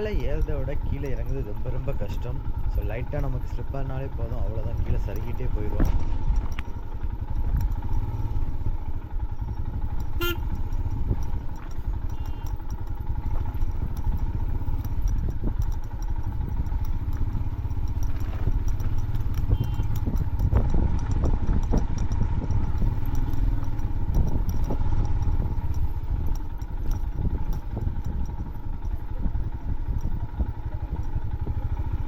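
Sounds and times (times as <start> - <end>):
motorcycle engine running: 0.0 - 32.0
motorcycle rattling: 0.0 - 32.0.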